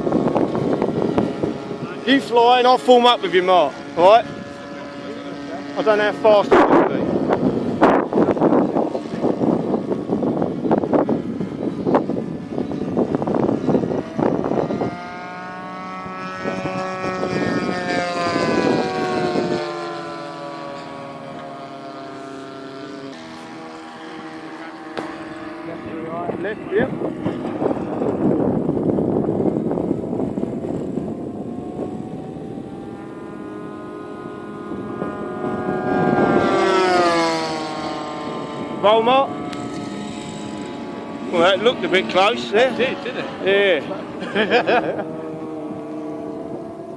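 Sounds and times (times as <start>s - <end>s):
model airplane flying past: 0.0s - 46.9s
wind buffeting microphone: 0.0s - 46.9s.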